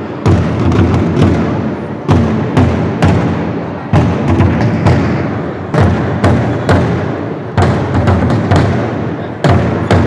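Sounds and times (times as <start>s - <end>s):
heavy drumbeats: 0.0s - 10.0s.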